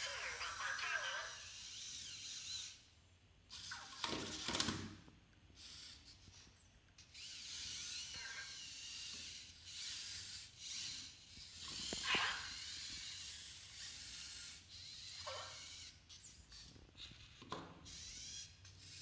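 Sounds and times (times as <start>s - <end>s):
toy robot motors whirring: 0.0s - 19.0s.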